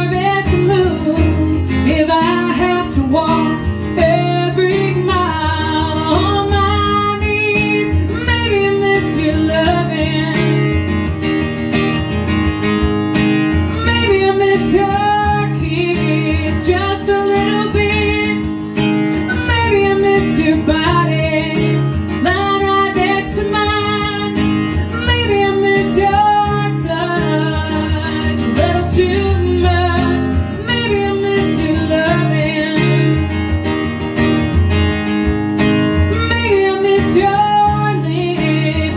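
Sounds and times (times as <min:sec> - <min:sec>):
woman singing: 0:00.0 - 0:11.0, 0:13.6 - 0:33.4, 0:36.0 - 0:38.9
strummed acoustic guitar: 0:00.0 - 0:38.9.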